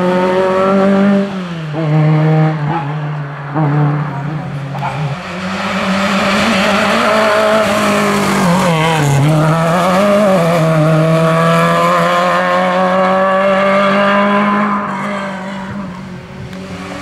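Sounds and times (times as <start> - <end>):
rally car engine at hard throttle: 0.0 - 17.0.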